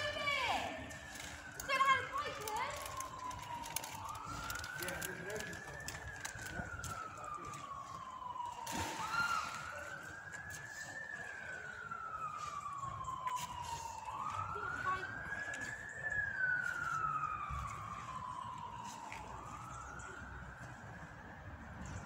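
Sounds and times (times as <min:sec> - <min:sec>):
siren wailing: 0:00.0 - 0:21.7.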